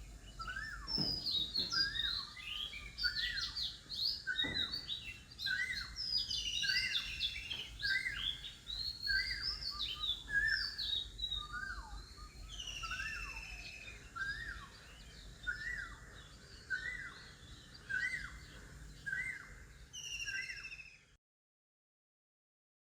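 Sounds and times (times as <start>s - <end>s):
birds chirping and singing: 0.0s - 21.2s.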